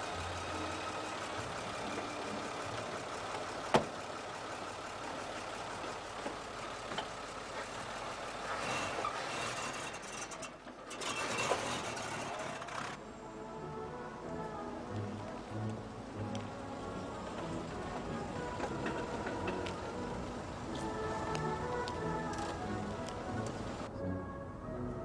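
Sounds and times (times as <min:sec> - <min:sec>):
vintage car engine running: 0:00.0 - 0:23.9
car pulling away: 0:00.0 - 0:25.0.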